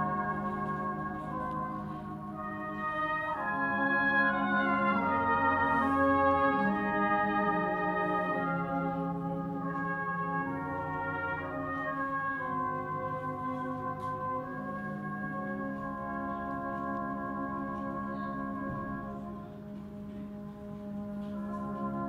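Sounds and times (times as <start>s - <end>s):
brass band playing held chords: 0.0s - 22.0s.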